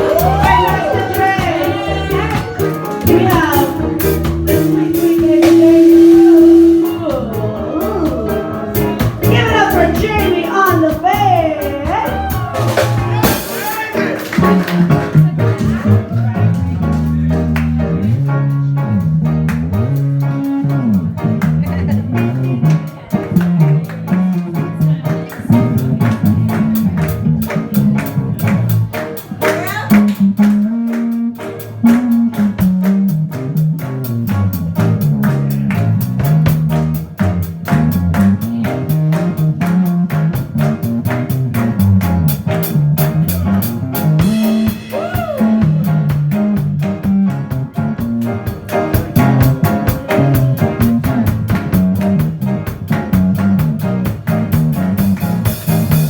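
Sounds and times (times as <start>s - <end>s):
bass line: 0.0s - 56.0s
drum kit: 0.0s - 56.0s
electric guitar: 0.0s - 56.0s.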